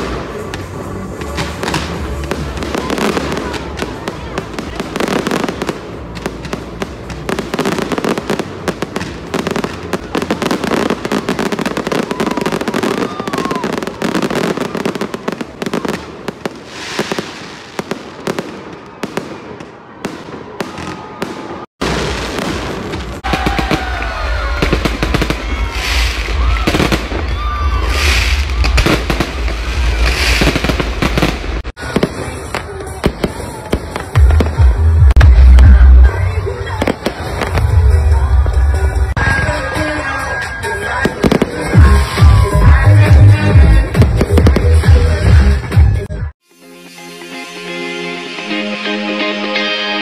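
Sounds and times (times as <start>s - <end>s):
fireworks crackling and popping: 0.0s - 46.4s
low fireworks rumble: 0.0s - 46.4s.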